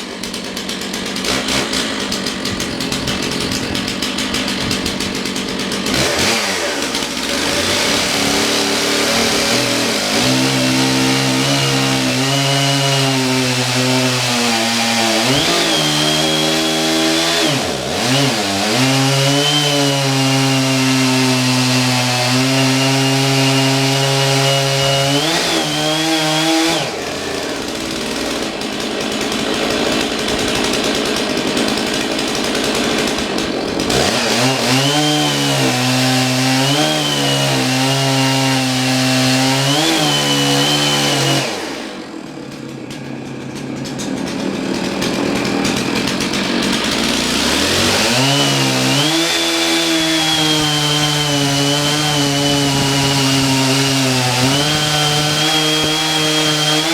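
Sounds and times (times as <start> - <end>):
chainsaw cutting log: 0.0 - 56.9.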